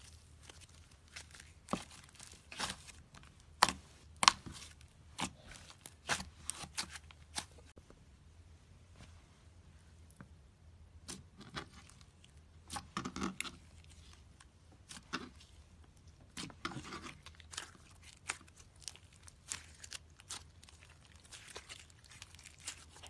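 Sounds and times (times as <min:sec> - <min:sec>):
slime squelching: 0:00.0 - 0:07.8, 0:10.8 - 0:23.0.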